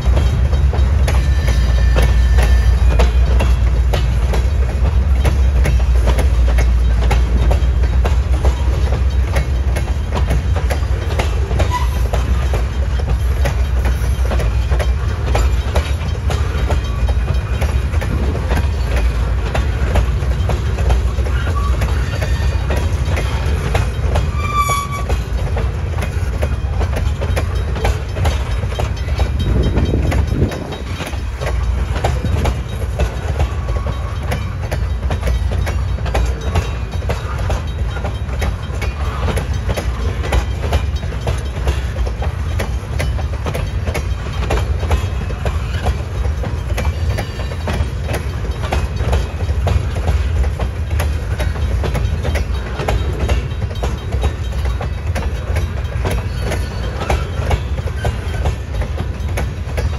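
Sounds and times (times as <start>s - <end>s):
freight train wheels rumbling: 0.0s - 59.9s
train wheels clacking: 0.0s - 59.9s.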